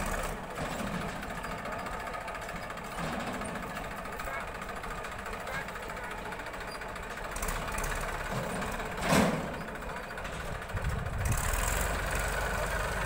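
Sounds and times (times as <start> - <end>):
backhoe loader engine running: 0.0 - 13.0
tractor diesel engine running: 0.0 - 13.0.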